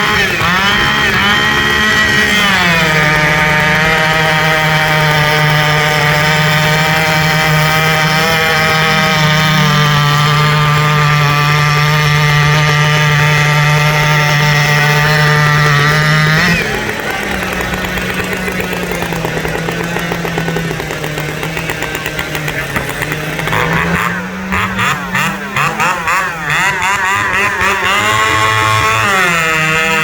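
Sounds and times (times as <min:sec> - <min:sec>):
chainsaw engine at high revs: 0:00.0 - 0:30.0.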